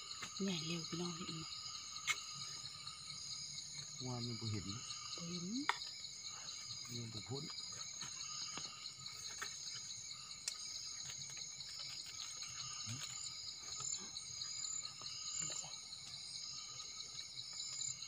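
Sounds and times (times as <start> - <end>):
crickets and insects trilling: 0.0 - 18.0.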